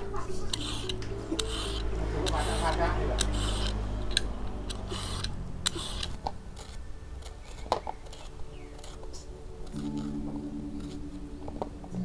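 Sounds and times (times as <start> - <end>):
knife scraping gourd skin: 0.5 - 11.2.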